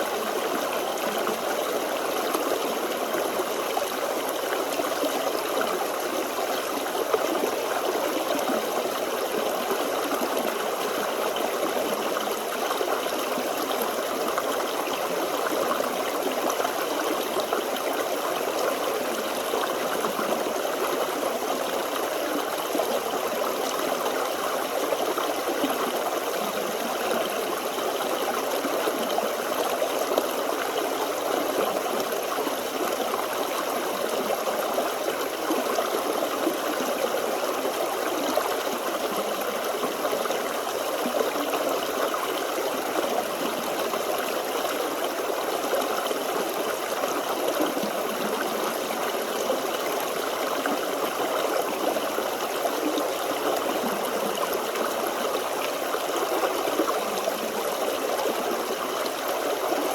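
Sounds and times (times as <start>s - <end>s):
stream burbling over stones: 0.0s - 59.9s.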